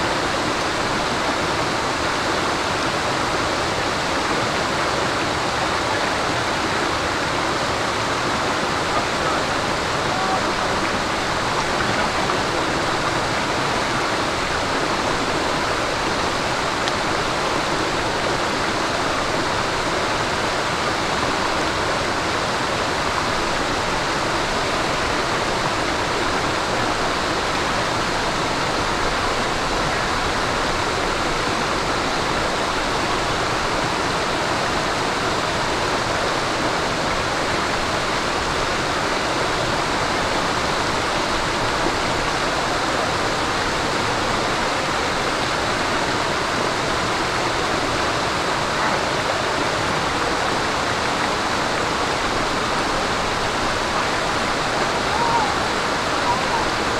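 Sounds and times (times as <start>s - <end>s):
stream water babbling over rocks: 0.0s - 56.9s.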